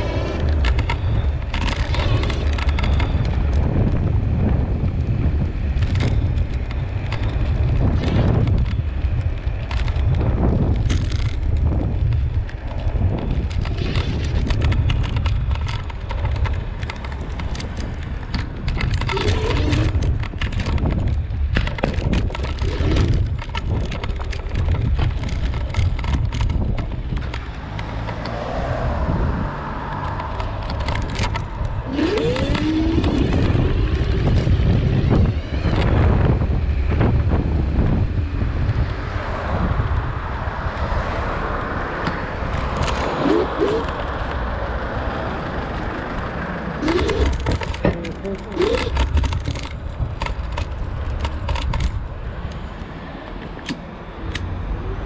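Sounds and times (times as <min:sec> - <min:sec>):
wheel knocks and rattles: 0:00.0 - 0:28.4, 0:29.9 - 0:37.4, 0:42.0 - 0:53.8
electric scooter tyre rumble: 0:00.0 - 0:55.0.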